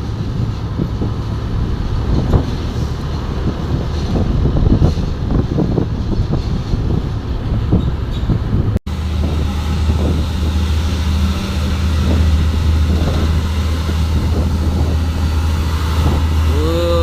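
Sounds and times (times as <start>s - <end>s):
diesel truck engine drone: 0.0s - 17.0s
road noise: 0.0s - 17.0s.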